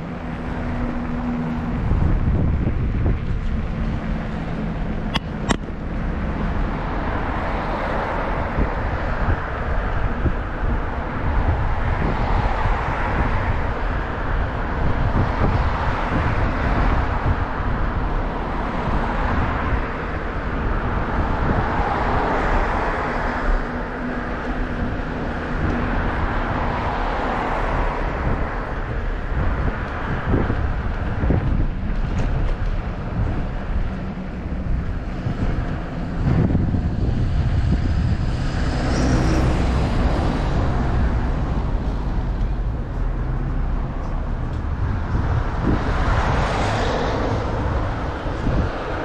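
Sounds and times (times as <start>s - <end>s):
low road rumble: 0.0s - 49.0s
wind on microphone: 0.0s - 49.0s.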